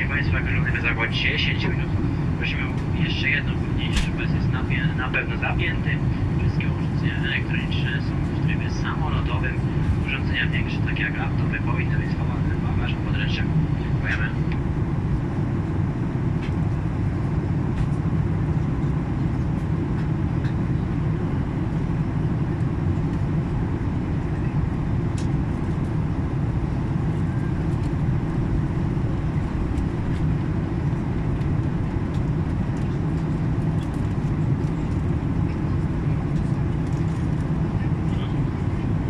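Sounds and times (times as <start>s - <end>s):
airliner cabin engine drone: 0.0s - 39.0s.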